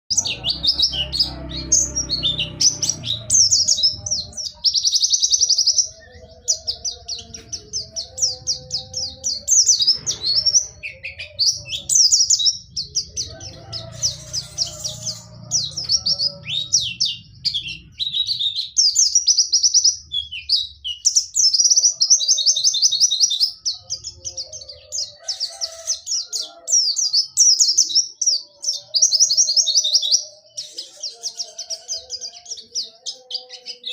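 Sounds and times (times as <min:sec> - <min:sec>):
bird singing rapid high trills: 0:00.0 - 0:33.9.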